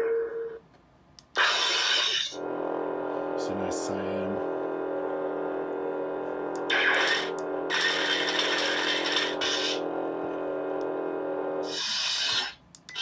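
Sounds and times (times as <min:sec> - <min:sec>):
lightsaber electric hum: 0:01.2 - 0:13.0.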